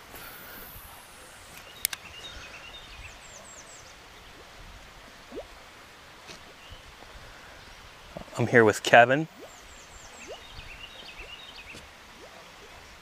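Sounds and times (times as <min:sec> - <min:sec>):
birds chirping: 0:00.4 - 0:04.5, 0:06.4 - 0:13.0.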